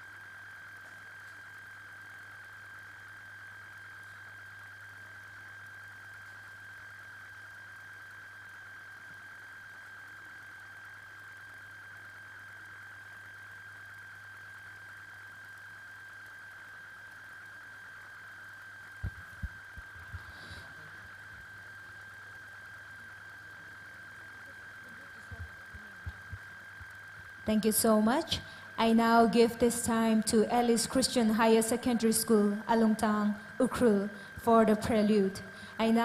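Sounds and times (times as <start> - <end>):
electrical hum: 0.0 - 36.0
high whine: 0.0 - 36.0.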